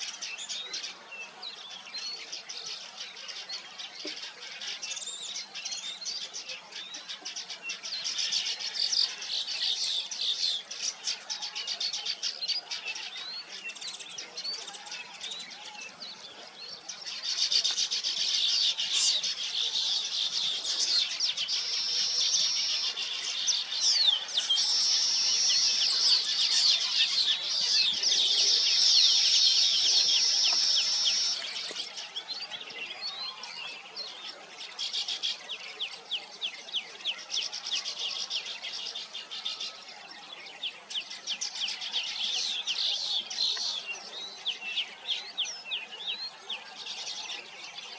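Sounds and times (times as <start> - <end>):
weaver birds chattering: 0.0 - 47.9.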